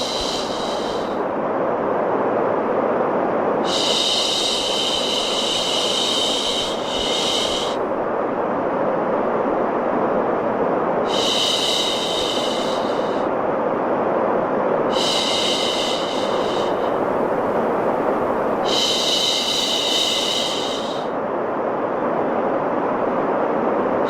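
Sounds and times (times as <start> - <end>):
rushing white noise: 0.0 - 24.0.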